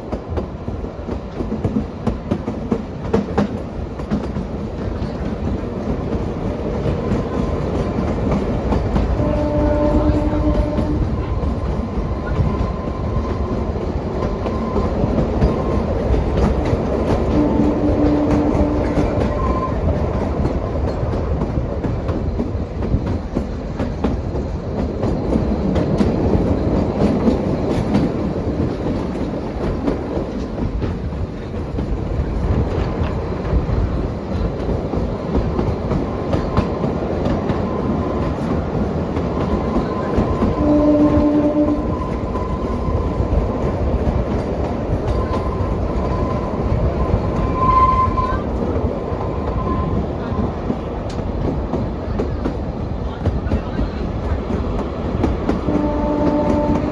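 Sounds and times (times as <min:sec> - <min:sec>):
train rumble: 0:00.0 - 0:56.9
wheels clickety-clack on rail joints: 0:00.0 - 0:56.9.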